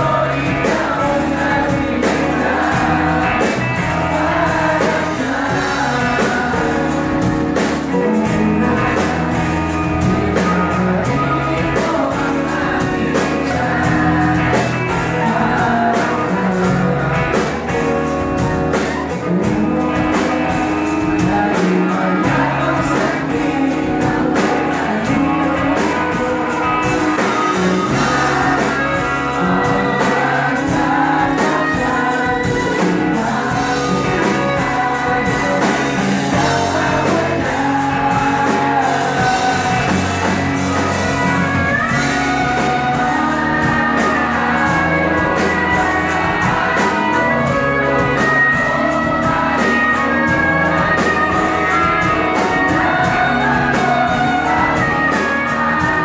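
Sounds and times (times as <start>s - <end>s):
bass guitar: 0.0s - 56.0s
electric guitars: 0.0s - 56.0s
person singing: 0.0s - 56.0s
steady drum beat: 0.0s - 56.0s.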